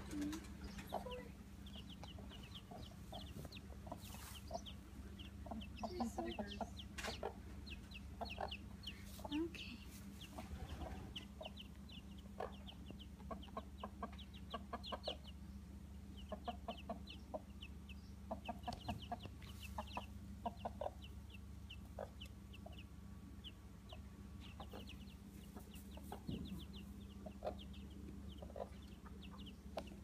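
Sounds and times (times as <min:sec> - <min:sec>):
chickens clucking: 0:00.0 - 0:30.0
chicks peeping: 0:00.0 - 0:30.0
steady low hum: 0:00.0 - 0:30.0.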